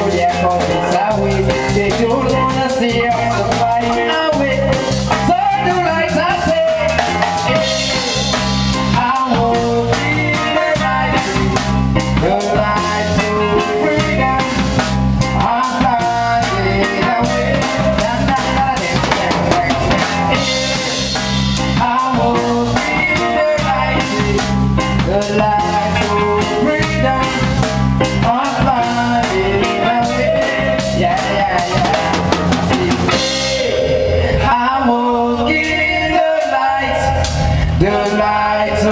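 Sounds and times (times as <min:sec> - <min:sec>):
drum kit beat: 0:00.0 - 0:34.6
band playing instrumental: 0:00.0 - 0:38.9.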